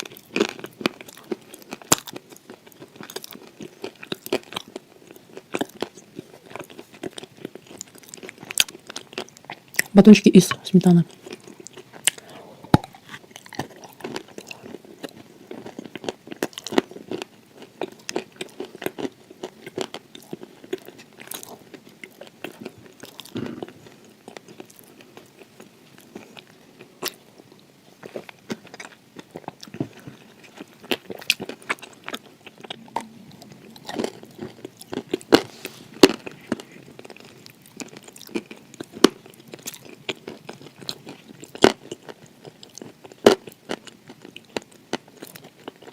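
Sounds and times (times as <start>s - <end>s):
person crunching and chewing: 0.0s - 10.1s, 10.8s - 45.9s.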